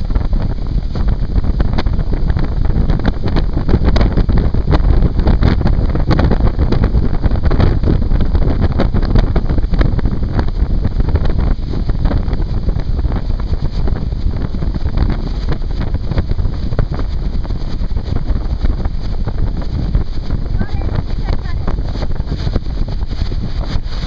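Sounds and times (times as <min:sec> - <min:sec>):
boat wake rushing: 0:00.0 - 0:24.0
wind buffeting microphone: 0:00.0 - 0:24.0.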